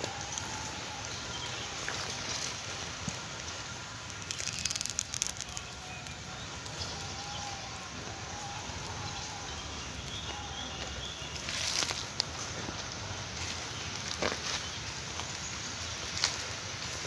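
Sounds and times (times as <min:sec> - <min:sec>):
crackling leaves and twigs: 0:00.0 - 0:17.0
footsteps crunching on dry leaves: 0:00.0 - 0:17.0.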